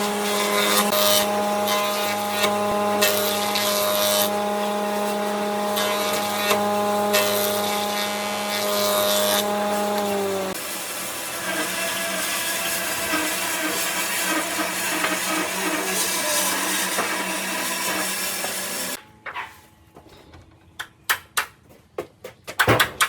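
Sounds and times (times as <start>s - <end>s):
power tool running: 0.0s - 19.0s.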